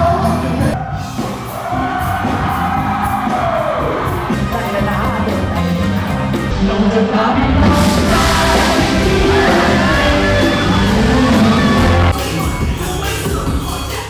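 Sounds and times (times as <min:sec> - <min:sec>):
crowd yelling and cheering: 0:00.0 - 0:14.0
live concert music with singing: 0:00.0 - 0:14.0.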